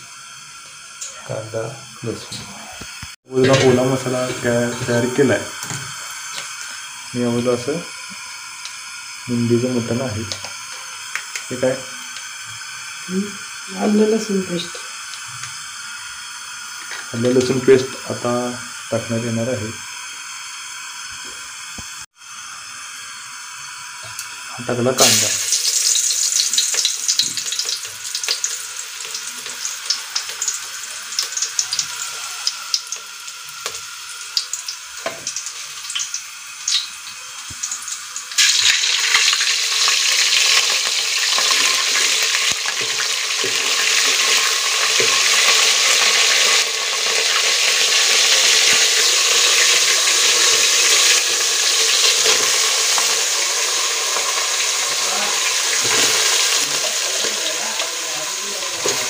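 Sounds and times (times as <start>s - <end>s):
onion frying in hot oil: 0.0s - 59.0s.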